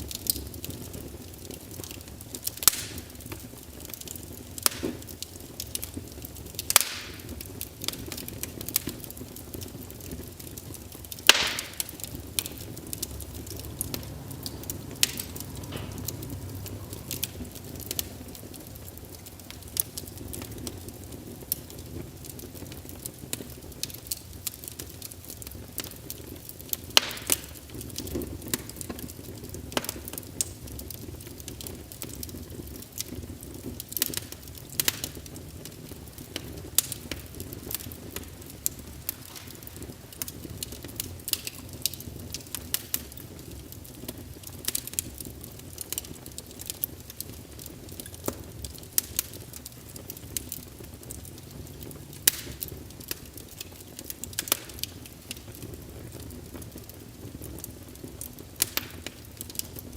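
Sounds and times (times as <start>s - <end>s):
fire crackling and popping: 0.0s - 59.9s
steady rush of flame: 0.0s - 59.9s.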